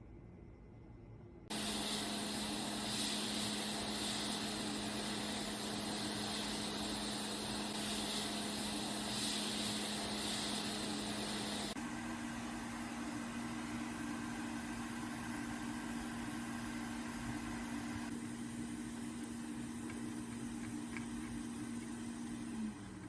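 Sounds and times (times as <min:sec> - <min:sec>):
machine hum with hiss: 0:01.4 - 0:23.0.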